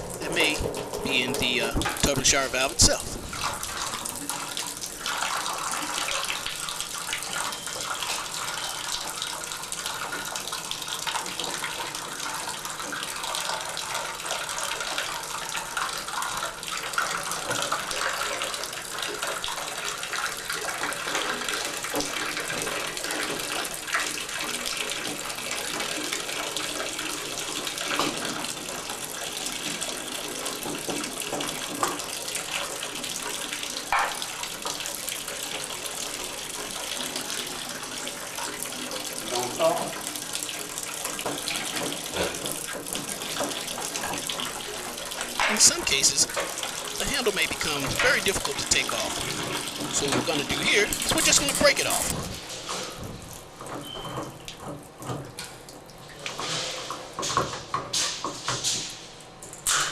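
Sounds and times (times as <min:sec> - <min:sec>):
water running into bathtub: 0:00.0 - 0:59.9.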